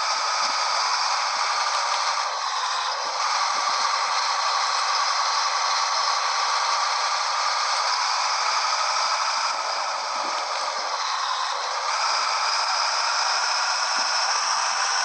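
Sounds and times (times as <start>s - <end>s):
truck road and cab noise: 0.0s - 15.0s.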